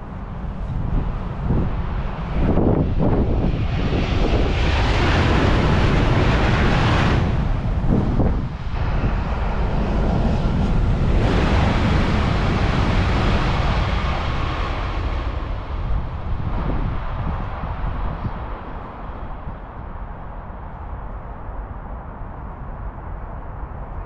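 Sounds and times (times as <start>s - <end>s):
high-speed train rushing: 0.0s - 24.0s
wind rumbling on microphone: 0.0s - 24.0s.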